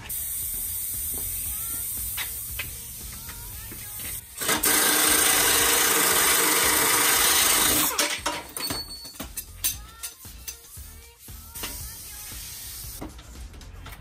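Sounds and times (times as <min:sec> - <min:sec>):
air ratchet running: 0:00.0 - 0:08.8, 0:09.4 - 0:13.0.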